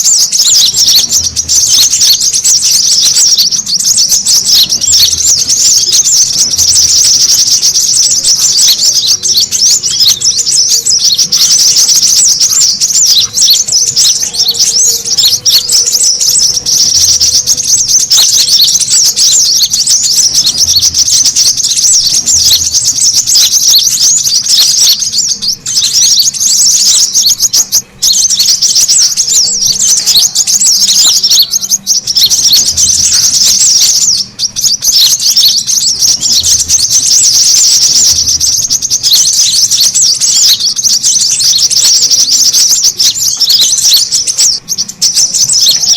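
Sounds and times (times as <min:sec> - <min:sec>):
bird chirping and trilling: 0:00.0 - 0:45.9.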